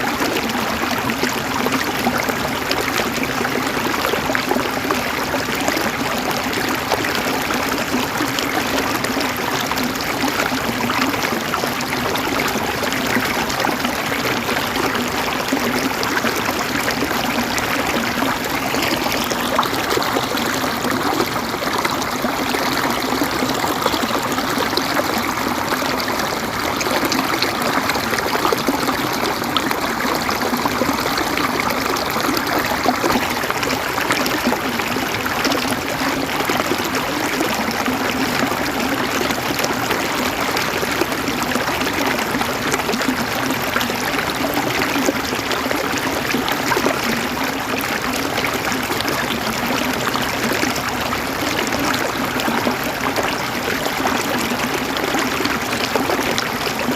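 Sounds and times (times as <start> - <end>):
river water flowing over stones: 0.0 - 56.9.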